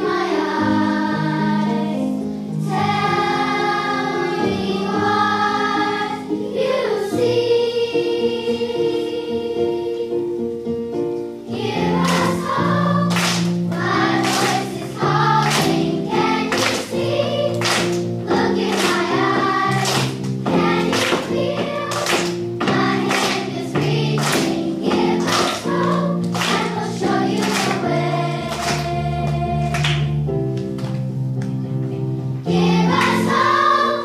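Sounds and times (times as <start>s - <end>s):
children's choir singing: 0.0s - 10.6s, 11.4s - 30.2s, 32.4s - 34.0s
instrumental accompaniment: 0.0s - 34.0s.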